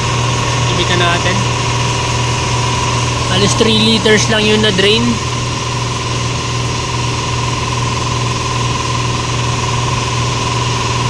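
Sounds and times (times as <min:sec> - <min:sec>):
mechanical drone with whine: 0:00.0 - 0:11.0.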